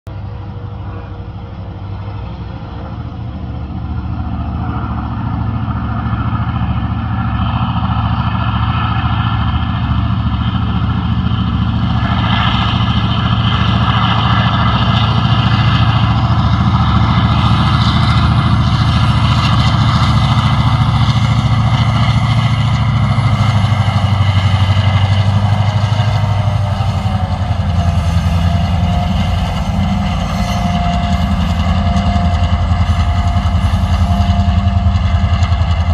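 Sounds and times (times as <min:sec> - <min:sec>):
diesel locomotive engines under load: 0:00.1 - 0:35.9.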